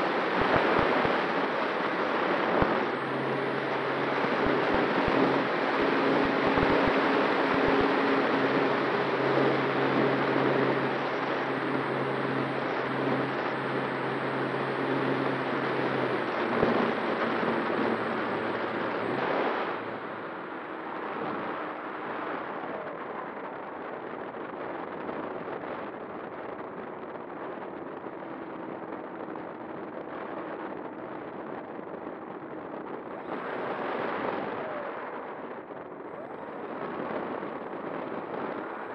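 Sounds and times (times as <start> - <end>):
electric motor and propeller hum: 0.0 - 38.9.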